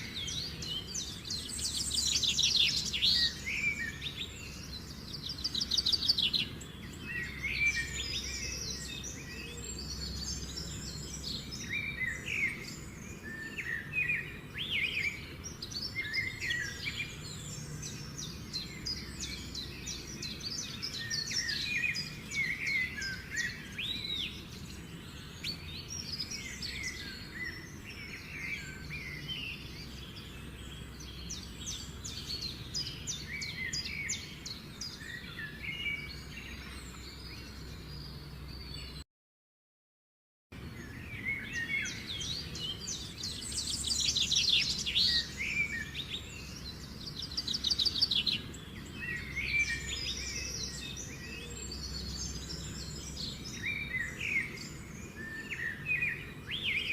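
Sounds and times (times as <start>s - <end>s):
low steady background noise: 0.0s - 39.0s, 40.6s - 56.9s
songbirds chirping and trilling: 0.0s - 39.0s, 40.5s - 56.9s.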